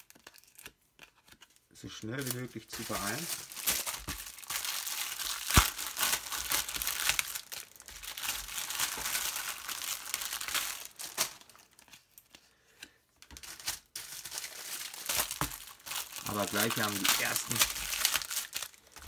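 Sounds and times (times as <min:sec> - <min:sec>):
plastic wrapping crinkling and tearing: 0:00.0 - 0:12.4, 0:13.2 - 0:19.0.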